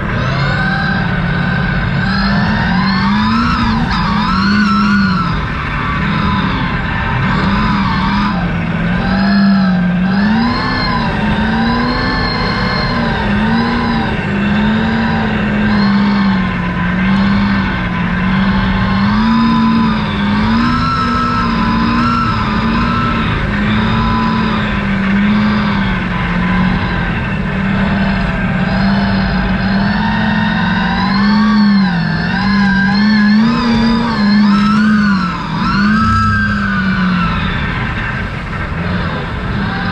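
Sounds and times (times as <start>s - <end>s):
truck engine revving under load: 0.0s - 39.9s.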